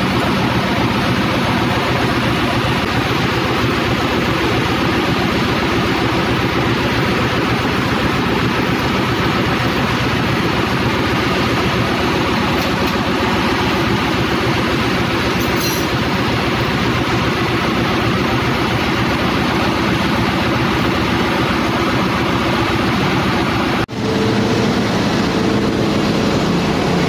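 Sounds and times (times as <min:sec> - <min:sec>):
engine room machinery drone: 0:00.0 - 0:27.0.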